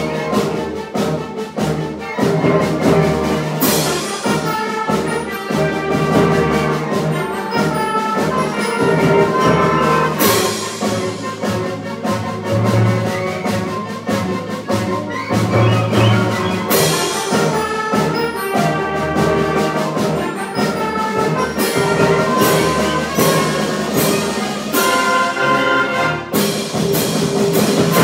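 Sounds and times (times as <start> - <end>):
concert band playing: 0.0 - 28.0
percussion beat: 0.0 - 28.0.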